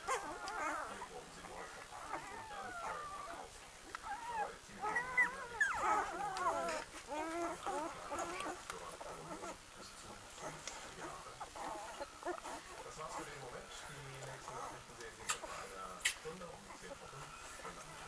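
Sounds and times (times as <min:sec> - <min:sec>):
puppies squeaking and whimpering: 0:00.0 - 0:18.0.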